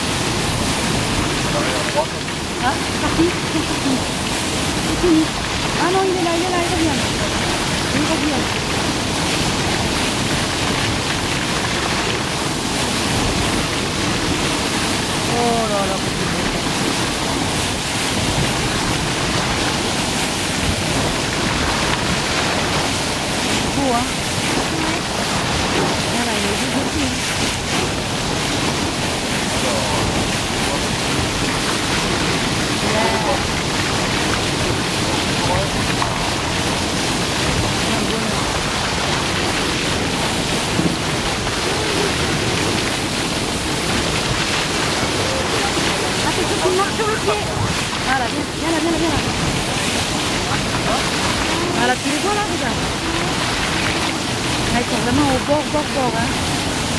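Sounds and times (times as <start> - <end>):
water rushing along boat bow: 0.0 - 56.9
wind buffeting microphone: 0.0 - 56.9.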